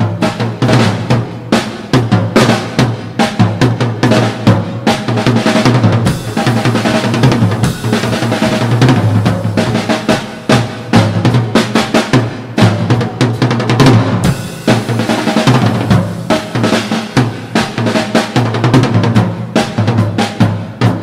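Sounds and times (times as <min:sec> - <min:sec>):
cymbals: 0:00.0 - 0:21.0
snare and bass drum: 0:00.0 - 0:21.0.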